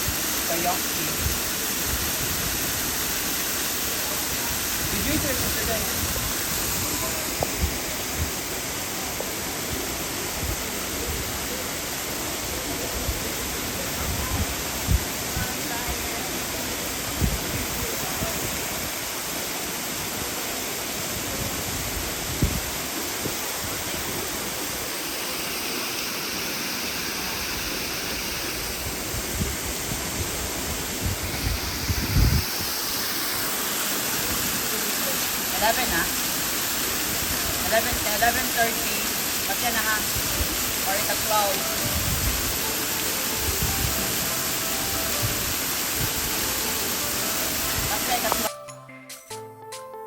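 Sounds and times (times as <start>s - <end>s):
waterfall rushing: 0.0s - 48.6s.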